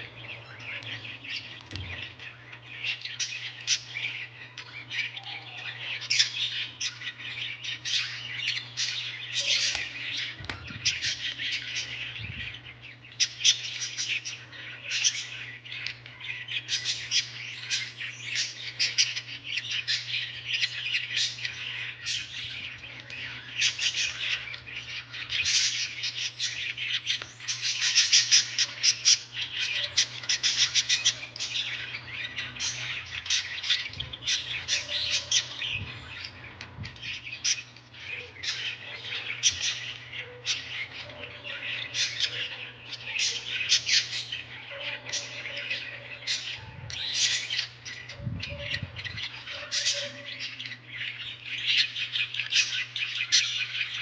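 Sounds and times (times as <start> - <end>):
birds chirping and squawking: 0.0 - 54.0.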